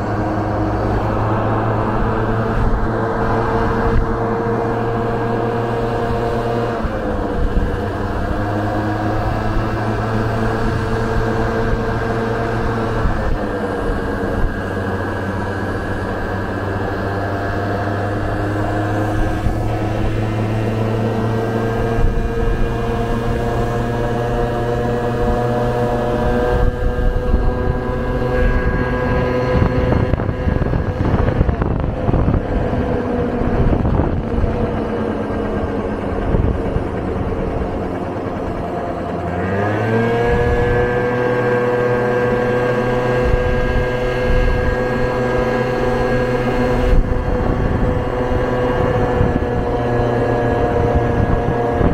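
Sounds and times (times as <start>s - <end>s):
scooter engine running: 0.0s - 51.9s
wind buffeting microphone: 0.0s - 51.9s.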